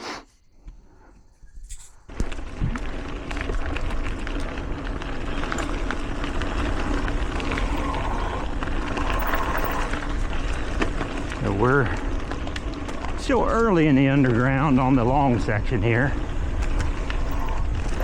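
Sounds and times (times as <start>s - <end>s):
mountain bike rolling on dirt trail: 1.7s - 18.0s.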